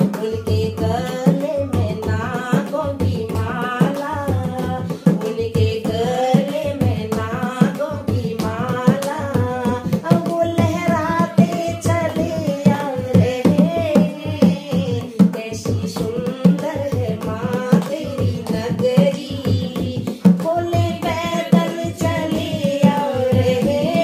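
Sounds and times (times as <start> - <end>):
hand drum steady rhythm: 0.0 - 24.0
women singing devotional song: 0.0 - 24.0.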